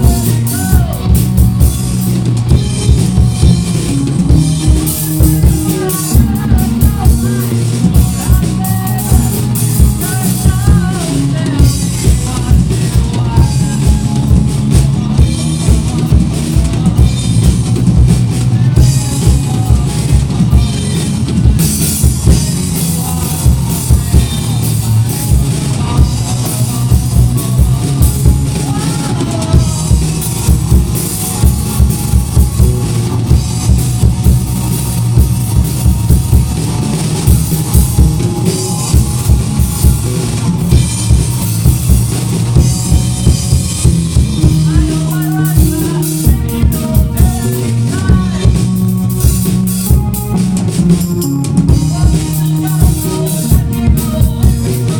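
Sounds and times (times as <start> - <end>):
drum kit beat: 0.0 - 54.9
rock band playing: 0.0 - 54.9.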